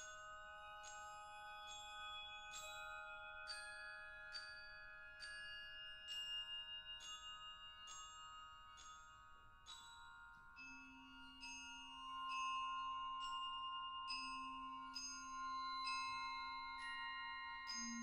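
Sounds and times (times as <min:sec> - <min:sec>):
vibraphone and glockenspiel notes: 0:00.0 - 0:18.0.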